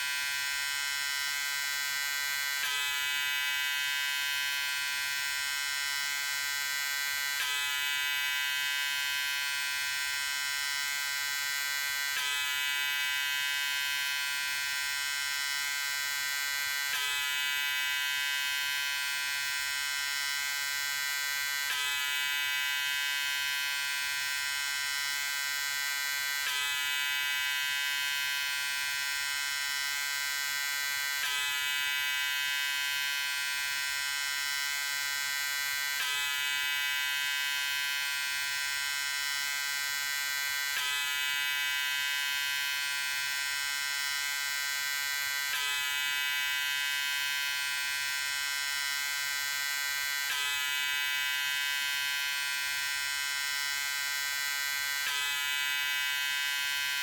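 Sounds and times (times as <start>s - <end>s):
electric shaver buzzing: 0.0s - 57.0s.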